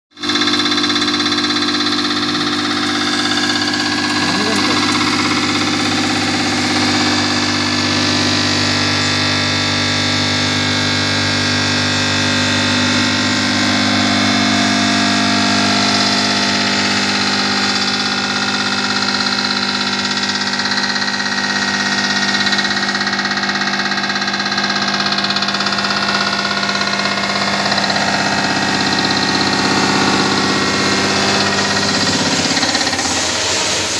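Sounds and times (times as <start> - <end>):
machine humming: 0.2 - 33.9.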